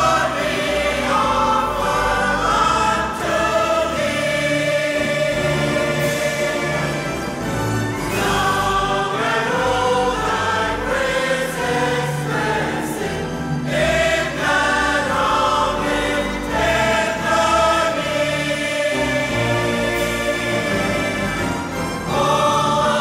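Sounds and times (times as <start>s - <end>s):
bass accompaniment: 0.0s - 23.0s
choir singing held chords: 0.0s - 23.0s.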